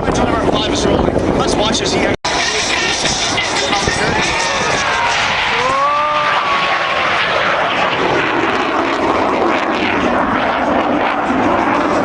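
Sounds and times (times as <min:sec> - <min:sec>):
jet flying past: 0:01.1 - 0:12.0.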